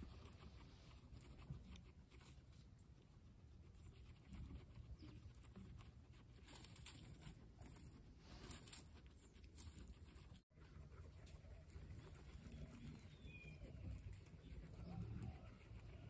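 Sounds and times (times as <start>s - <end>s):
guinea pigs chewing carrot: 0.0s - 16.0s.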